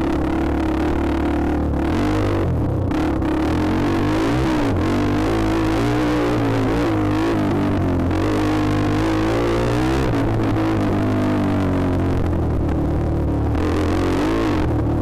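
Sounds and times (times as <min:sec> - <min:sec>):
dirt bike engine revving: 0:00.0 - 0:11.9, 0:13.5 - 0:15.0.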